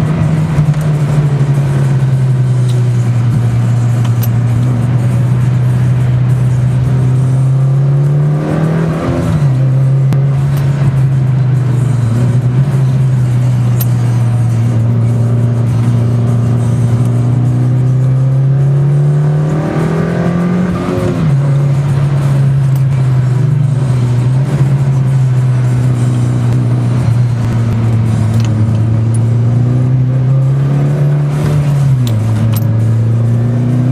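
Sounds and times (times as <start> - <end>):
car engine accelerating: 0.0 - 33.9.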